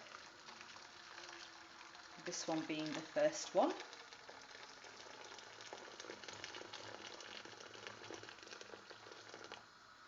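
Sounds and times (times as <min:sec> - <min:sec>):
water poured into a pot: 0:00.0 - 0:09.8.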